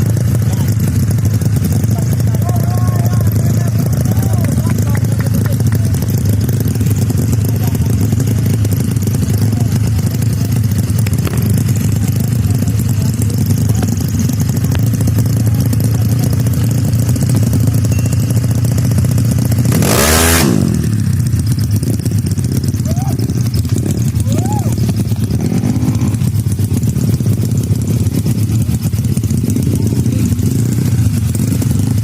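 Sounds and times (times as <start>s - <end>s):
motorcycle engines droning: 0.0s - 32.0s
motorcycle passing at high revs: 0.0s - 32.0s.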